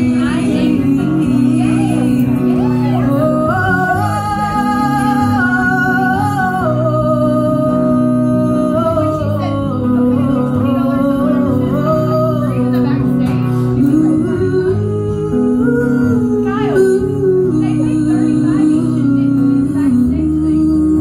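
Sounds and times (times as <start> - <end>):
acoustic guitar strumming: 0.0 - 21.0
woman singing: 0.0 - 21.0.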